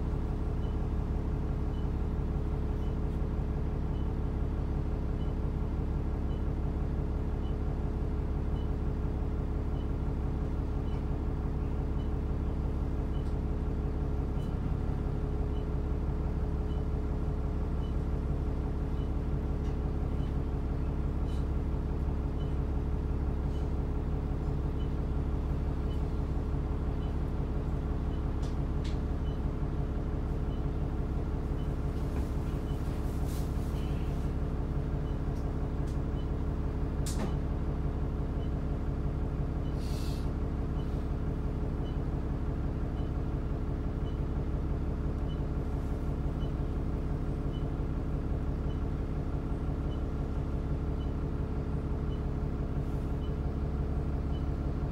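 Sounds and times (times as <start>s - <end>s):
bus engine drone: 0.0s - 54.9s.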